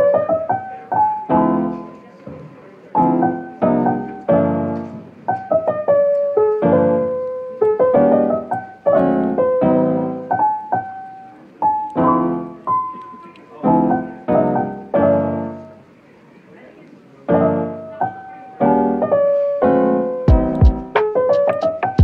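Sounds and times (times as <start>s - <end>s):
gentle piano chords: 0.0s - 22.0s.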